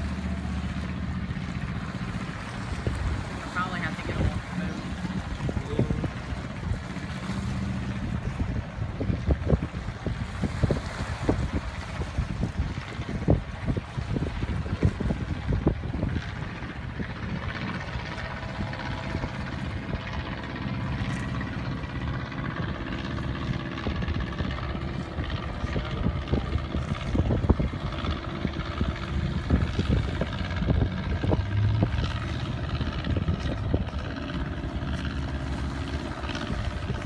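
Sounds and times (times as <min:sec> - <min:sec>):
motorboat engines droning: 0:00.0 - 0:37.0.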